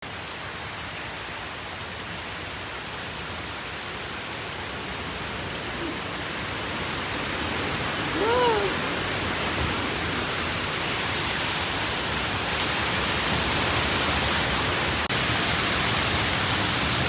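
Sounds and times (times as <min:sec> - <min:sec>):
storm rain: 0:00.0 - 0:17.0.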